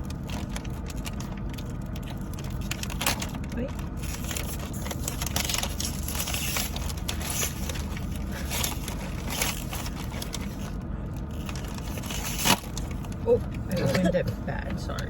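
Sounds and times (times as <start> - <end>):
plastic wrapper crinkling: 0.0 - 13.2
steady low rumble: 0.0 - 15.0.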